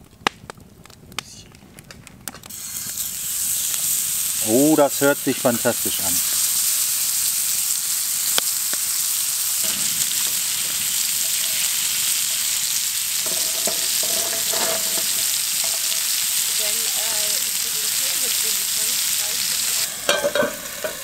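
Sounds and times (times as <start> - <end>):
burger patties sizzling: 2.2 - 21.0.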